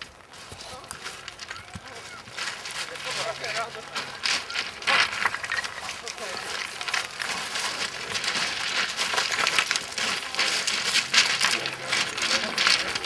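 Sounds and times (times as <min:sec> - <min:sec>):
footsteps crunching on scree: 0:00.0 - 0:13.0.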